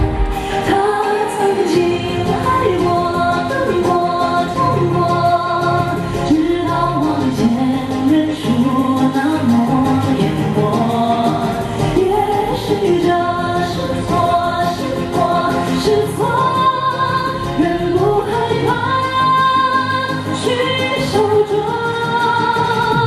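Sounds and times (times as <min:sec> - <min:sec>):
instrumental backing music: 0:00.0 - 0:23.0.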